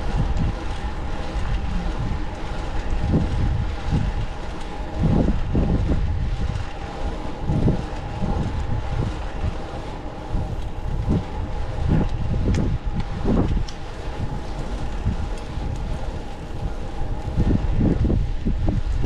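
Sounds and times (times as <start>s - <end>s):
steady faint hum: 0.0s - 19.0s
wind buffeting microphone: 0.0s - 19.0s.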